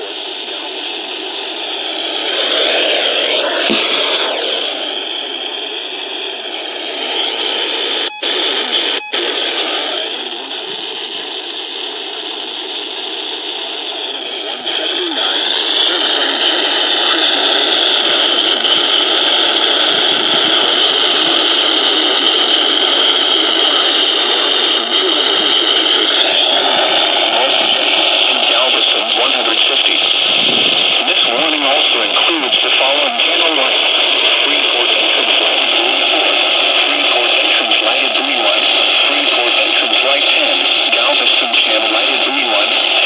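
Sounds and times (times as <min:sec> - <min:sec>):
radio static hiss: 0:00.0 - 0:43.0.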